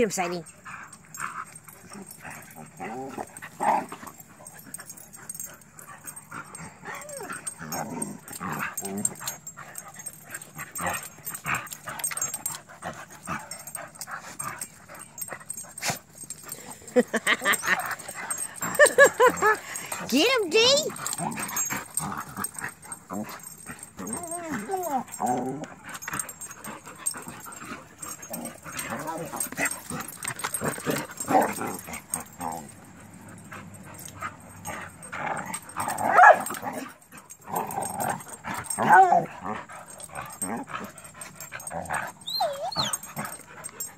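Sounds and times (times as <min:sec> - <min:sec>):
dogs play-fighting vocalising: 0:00.6 - 0:43.9.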